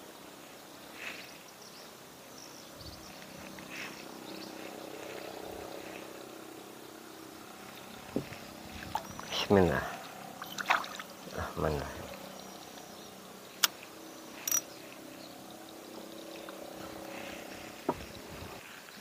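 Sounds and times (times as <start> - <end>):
birds chirping: 0.0 - 19.0
low hum of distant motor: 0.0 - 19.0.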